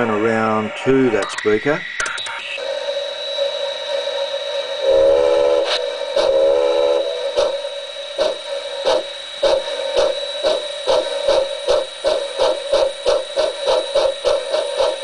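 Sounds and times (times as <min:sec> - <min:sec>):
steam locomotive exhaust chuffs: 0:01.6 - 0:15.0
steam locomotive whistle: 0:02.6 - 0:15.0.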